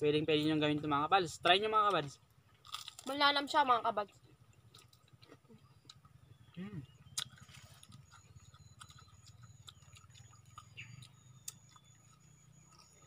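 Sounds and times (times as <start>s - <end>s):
low steady hum: 0.0s - 13.0s
crunching and chewing fritters: 1.9s - 13.0s.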